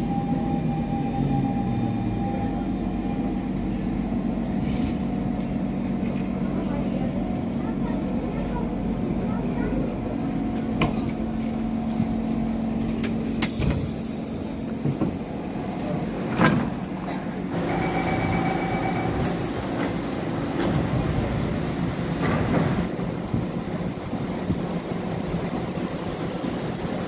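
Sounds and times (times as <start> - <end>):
train humming: 0.0 - 27.0.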